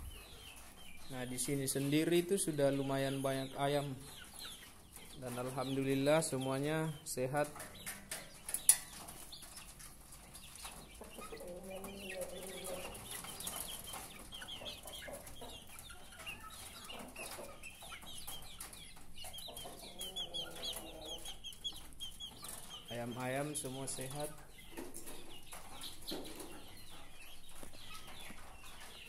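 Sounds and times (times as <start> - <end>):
chickens clucking: 0.0 - 29.0.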